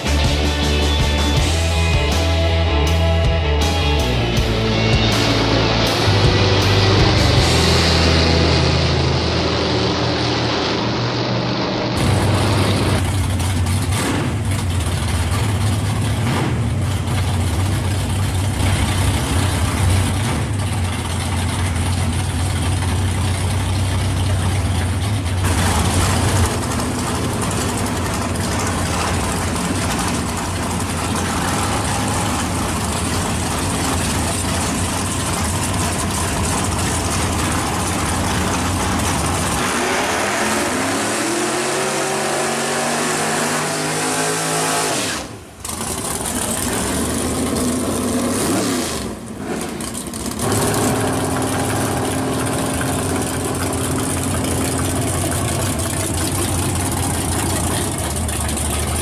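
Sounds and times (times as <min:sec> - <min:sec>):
race car engines idling: 0:00.0 - 0:43.7, 0:45.2 - 0:59.0.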